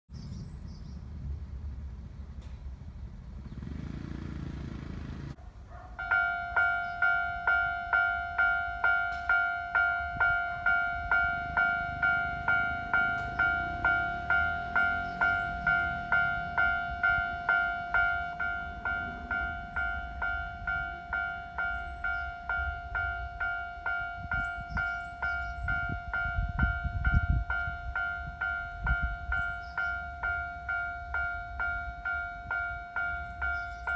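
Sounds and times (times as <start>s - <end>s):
level-crossing warning bell: 6.0s - 33.9s.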